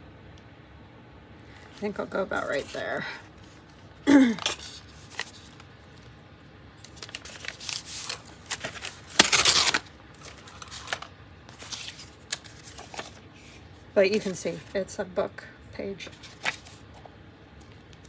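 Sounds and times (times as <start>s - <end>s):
paper rustling and crinkling: 1.5s - 6.1s, 6.8s - 14.8s, 16.0s - 18.0s.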